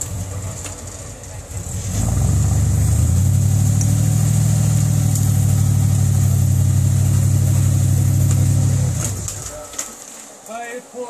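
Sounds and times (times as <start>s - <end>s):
buggy engine under load: 0.0s - 9.8s.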